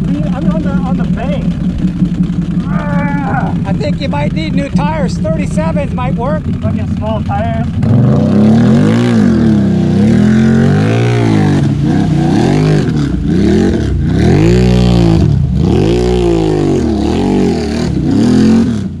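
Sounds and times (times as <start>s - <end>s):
tires churning through mud: 0.0s - 19.0s
engine revving hard: 2.6s - 19.0s.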